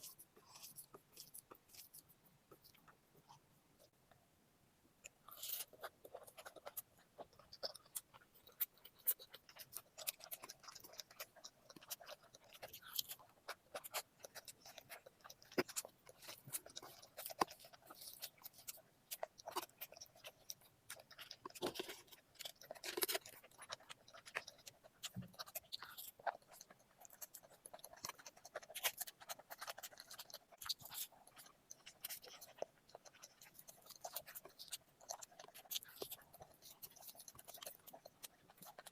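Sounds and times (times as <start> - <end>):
person chewing with mouth smacks: 0.0 - 4.0, 5.0 - 38.9.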